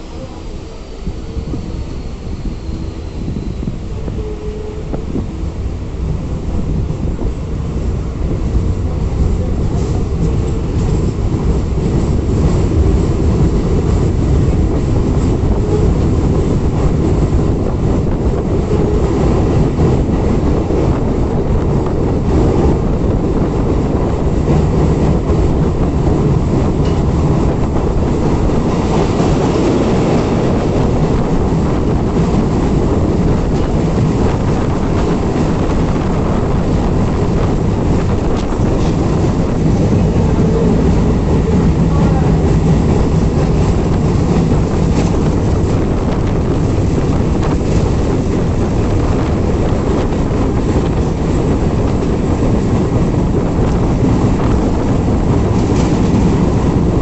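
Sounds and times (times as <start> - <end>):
train running on rails: 0.0 - 57.0.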